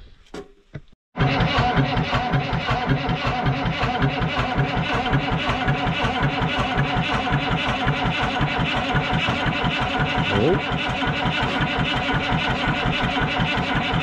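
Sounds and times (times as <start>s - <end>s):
diesel engine cranking on starter: 1.2s - 14.0s.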